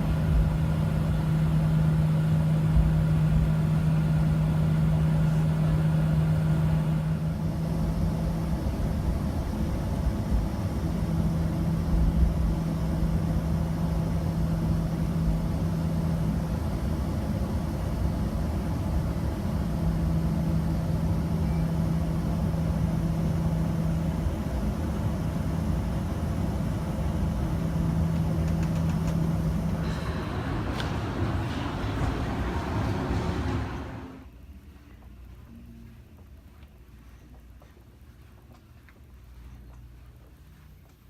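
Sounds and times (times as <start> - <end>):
airliner cabin rumble: 0.0 - 34.4
low hum: 0.0 - 37.0.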